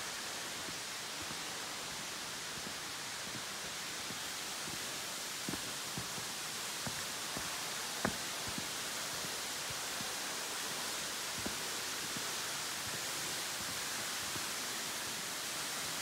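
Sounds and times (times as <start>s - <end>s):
waterfall splashing onto rocks: 0.0s - 16.0s.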